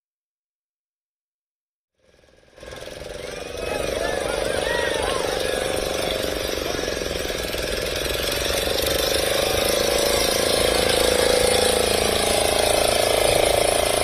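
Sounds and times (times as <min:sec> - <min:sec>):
boat engine running: 0:02.0 - 0:14.0
propeller churning water: 0:02.3 - 0:14.0.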